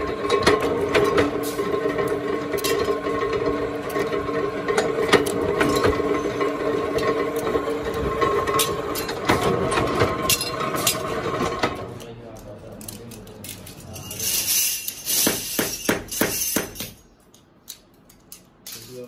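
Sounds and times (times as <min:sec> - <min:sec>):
workshop machinery humming: 0:00.0 - 0:18.4.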